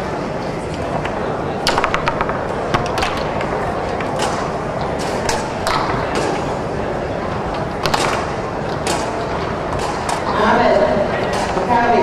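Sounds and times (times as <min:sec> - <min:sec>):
murmur of large hall: 0:00.0 - 0:12.0.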